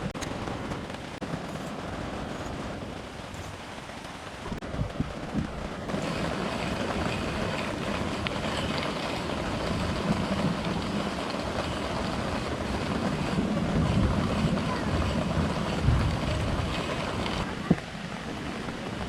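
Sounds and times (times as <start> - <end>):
river water rushing over rapids: 0.0 - 19.0.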